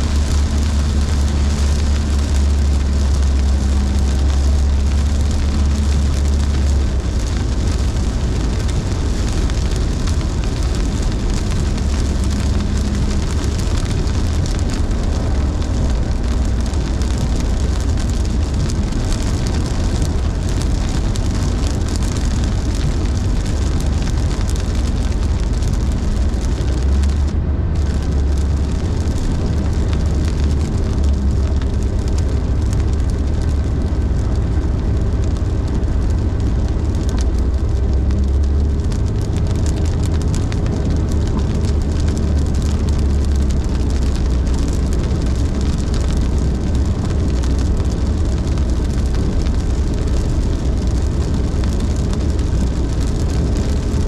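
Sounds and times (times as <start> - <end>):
car driving on wet road: 0.0 - 54.0
heavy rain hissing: 0.0 - 54.0.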